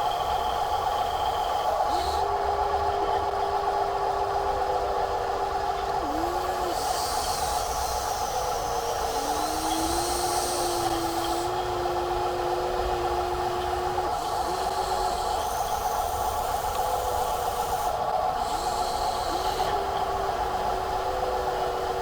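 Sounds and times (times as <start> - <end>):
small electric motor whining: 0.0 - 22.0
steady mechanical hum: 0.0 - 22.0.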